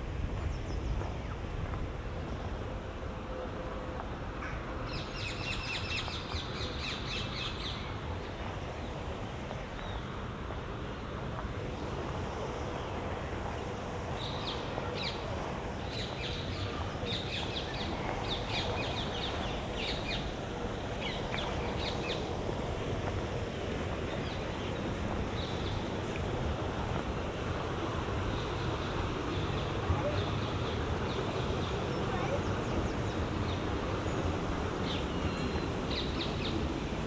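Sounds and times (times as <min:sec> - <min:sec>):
low outdoor background rush: 0:00.0 - 0:37.0.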